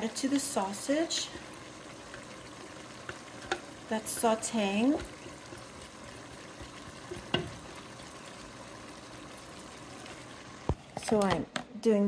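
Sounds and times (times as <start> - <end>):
sausage sizzling in butter: 0.0 - 11.3.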